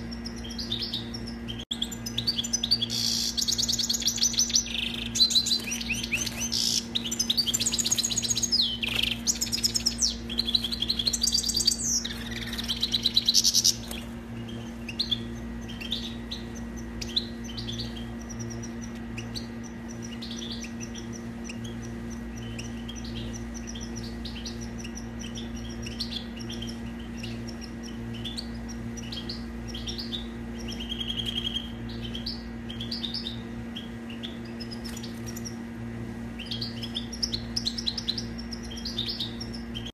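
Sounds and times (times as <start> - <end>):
finch twittering song: 0.0 - 39.9
steady low hum: 0.0 - 39.9.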